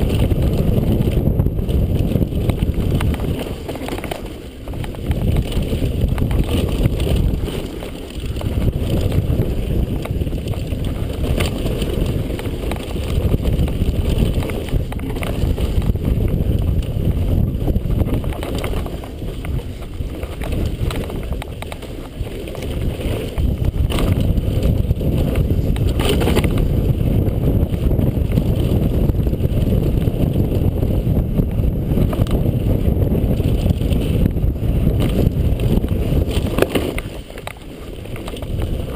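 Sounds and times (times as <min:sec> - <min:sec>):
mountain bike rumble and rattle: 0:00.0 - 0:38.9
wind buffeting microphone: 0:00.0 - 0:38.9.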